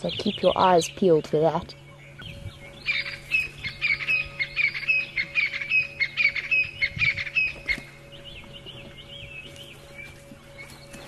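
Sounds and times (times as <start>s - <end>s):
bird calling rapidly: 0.0s - 11.0s
faint steady hum: 0.0s - 11.0s.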